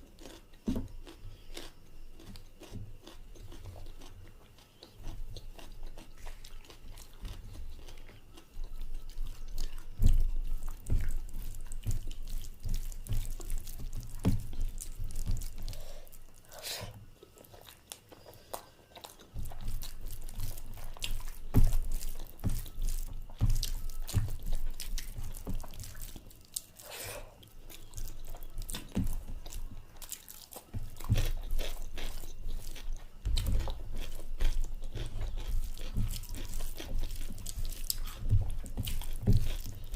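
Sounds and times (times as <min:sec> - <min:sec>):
food crunching: 0:00.0 - 0:39.9
person chewing food: 0:00.0 - 0:39.9.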